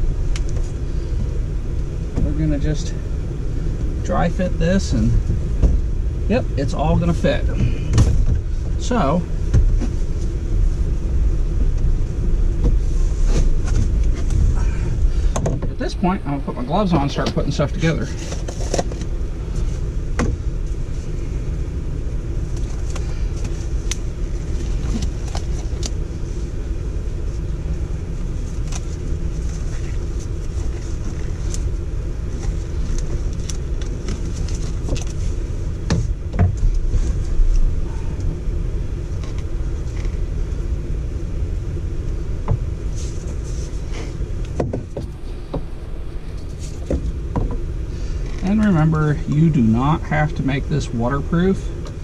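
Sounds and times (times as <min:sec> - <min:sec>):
low rumbling background noise: 0:00.0 - 0:52.0.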